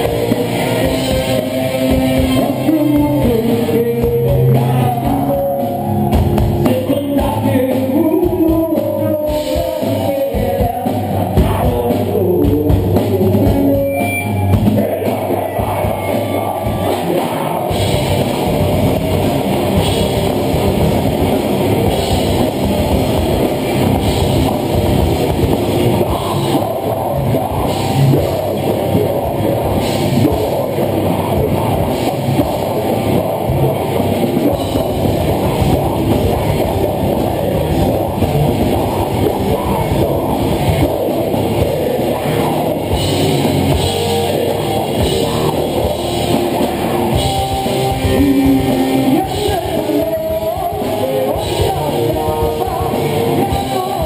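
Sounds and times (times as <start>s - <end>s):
person singing: 0.0s - 18.8s, 23.3s - 54.0s
drum kit: 0.0s - 54.0s
electric guitars: 0.0s - 54.0s.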